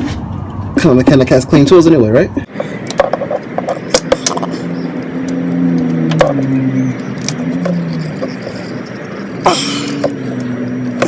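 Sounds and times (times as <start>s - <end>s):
low droning hum: 0.0s - 11.0s.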